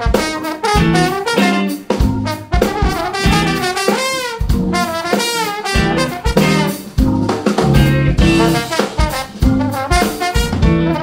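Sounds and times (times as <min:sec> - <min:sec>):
drum kit: 0:00.0 - 0:11.0
trombone lead line: 0:00.0 - 0:11.0
electric bass: 0:00.8 - 0:03.8, 0:04.4 - 0:05.1, 0:05.8 - 0:11.0.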